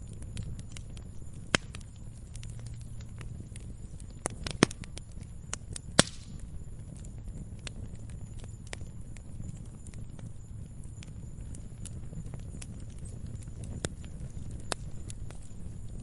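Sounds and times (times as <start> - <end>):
log fire crackling: 0.0 - 16.0
low rumble of flames: 0.0 - 16.0.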